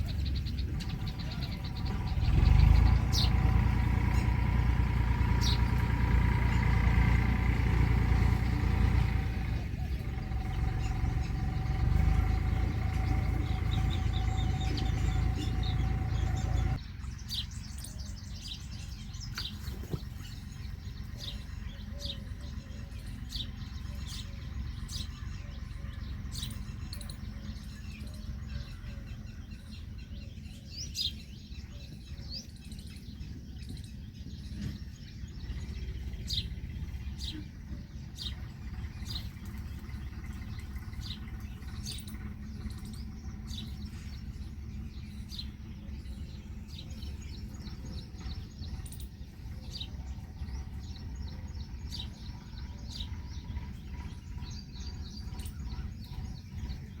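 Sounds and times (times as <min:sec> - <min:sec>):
loud low rumble with hum: 0:00.0 - 0:57.0
small birds chirping: 0:00.0 - 0:57.0.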